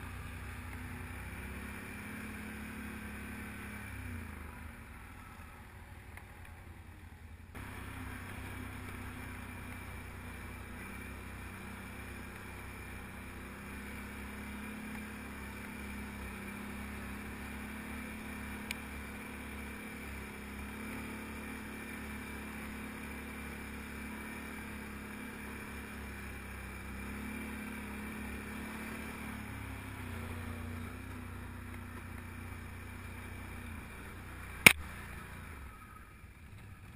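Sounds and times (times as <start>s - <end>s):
atv engine running: 0.0s - 36.9s.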